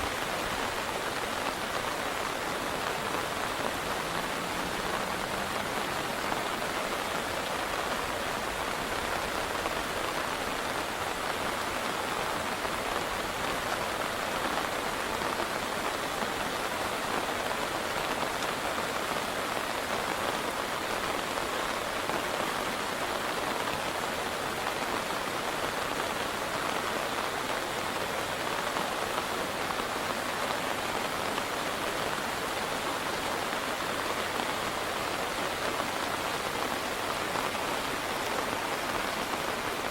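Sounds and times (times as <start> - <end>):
steady hiss of water: 0.0 - 39.9.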